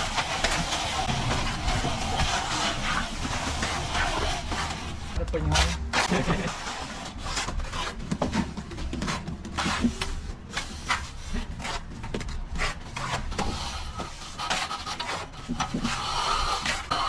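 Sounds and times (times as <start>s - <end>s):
trowel scraping wet plaster: 0.0s - 8.4s, 9.0s - 17.0s.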